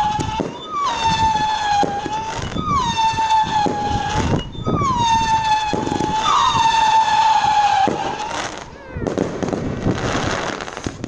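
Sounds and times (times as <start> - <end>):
firework pops and bangs: 0.0 - 11.0
whistling fireworks: 0.0 - 11.0.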